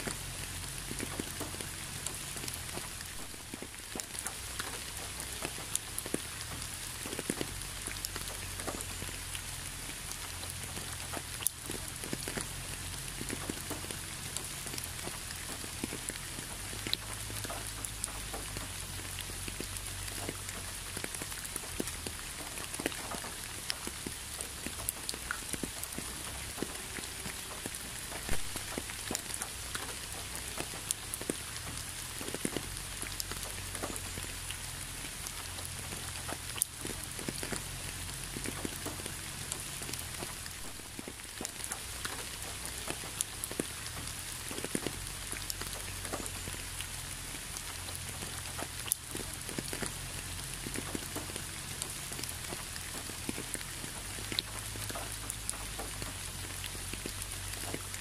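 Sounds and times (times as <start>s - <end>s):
raindrops clicking: 0.0s - 58.0s
steady rain hiss: 0.0s - 58.0s.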